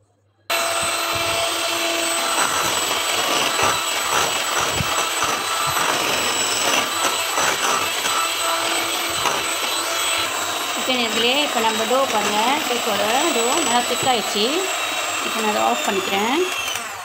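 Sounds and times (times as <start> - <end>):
electric hand mixer whisking batter: 0.5 - 17.0.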